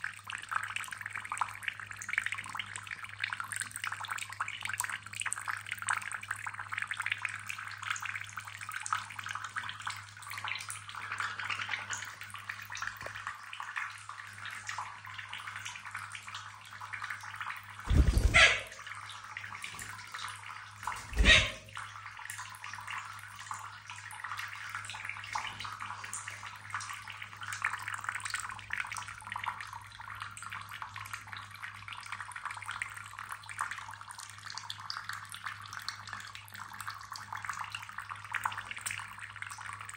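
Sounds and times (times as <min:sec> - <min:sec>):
tap water trickling into sink: 0:00.0 - 0:39.9.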